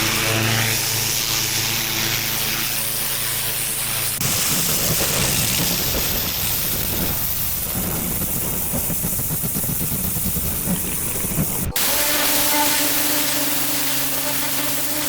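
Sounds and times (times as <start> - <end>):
machine hum: 0.0 - 15.0
pressure washer spraying water: 0.0 - 15.0.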